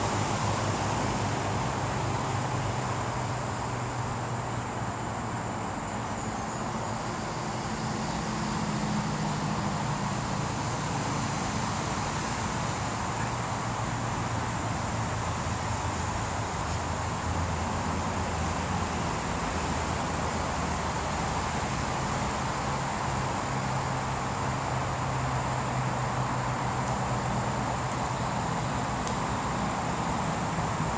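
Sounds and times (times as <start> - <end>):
even hiss: 0.0 - 30.9.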